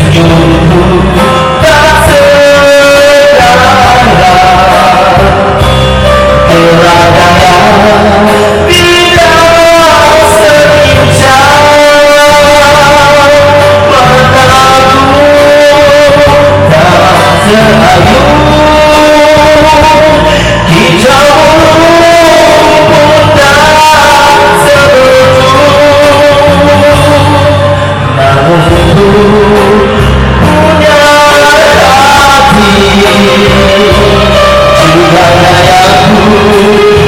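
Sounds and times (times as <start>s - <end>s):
rock song with male singer: 0.0s - 37.0s.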